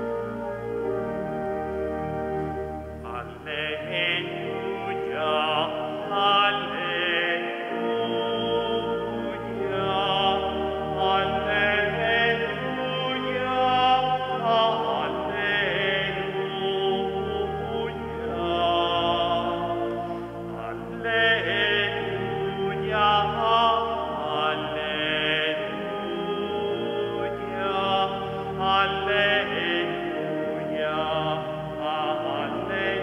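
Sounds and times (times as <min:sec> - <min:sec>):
pipe organ chords: 0:00.0 - 0:33.0
person singing with vibrato: 0:03.0 - 0:33.0.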